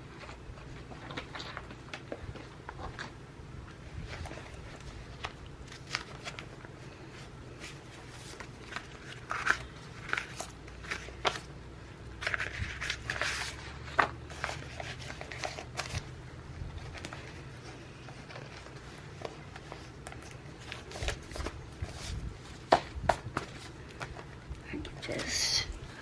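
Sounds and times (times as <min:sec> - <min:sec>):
paper crinkly rustling: 0:00.0 - 0:26.0
steady low hum: 0:00.0 - 0:26.0.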